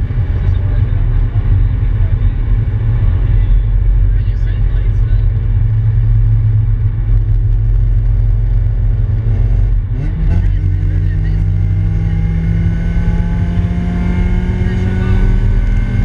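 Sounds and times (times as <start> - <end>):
car engine heard from cabin: 0.0 - 16.0.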